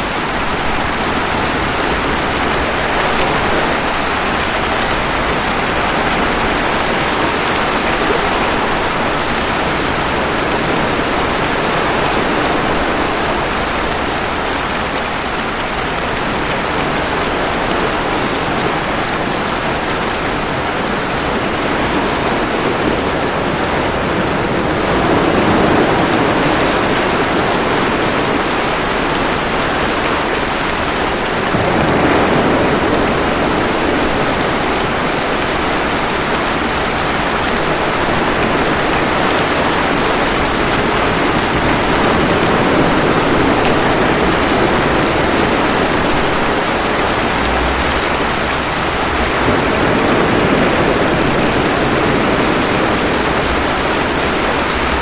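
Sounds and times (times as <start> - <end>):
steady rain: 0.0 - 55.0
waves washing ashore: 0.0 - 55.0.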